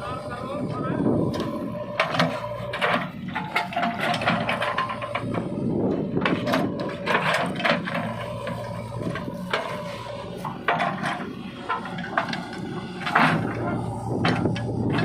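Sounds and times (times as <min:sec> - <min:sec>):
backhoe engine running: 0:00.0 - 0:15.0
digging gear clatter: 0:01.4 - 0:15.0.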